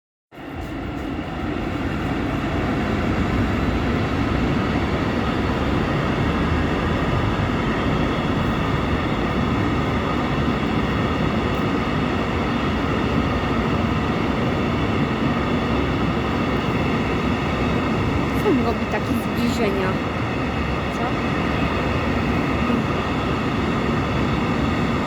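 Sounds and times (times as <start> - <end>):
freight train wheels rumbling: 0.3 - 25.0.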